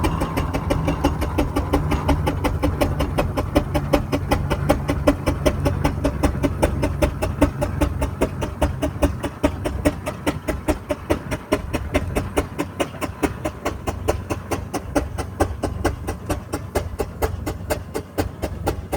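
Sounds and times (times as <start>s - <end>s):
steam engine chuffing: 0.0s - 18.9s.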